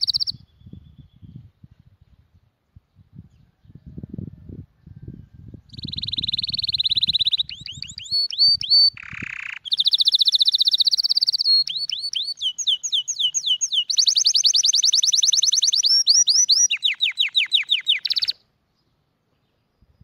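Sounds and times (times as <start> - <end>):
bird singing buzzy trills: 0.0 - 4.1, 5.2 - 20.0.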